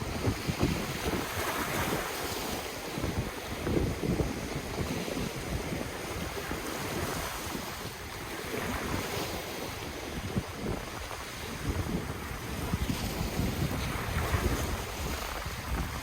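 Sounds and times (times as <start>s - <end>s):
ocean waves washing on shore: 0.0s - 16.0s
wind buffeting microphone: 0.0s - 16.0s.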